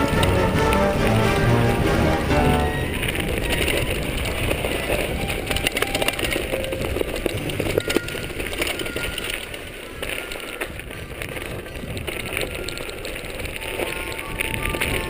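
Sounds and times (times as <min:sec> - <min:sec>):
bike clicks and rattles: 0:00.0 - 0:15.0
bike tyres on dirt trail: 0:00.0 - 0:15.0.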